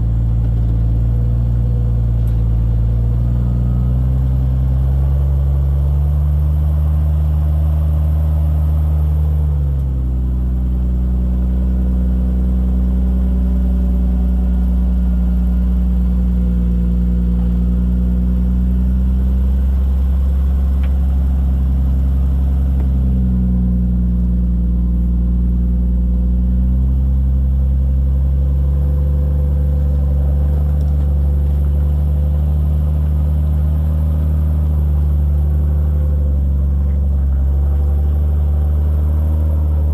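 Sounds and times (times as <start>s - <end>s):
engine running at low revs: 0.0s - 39.9s.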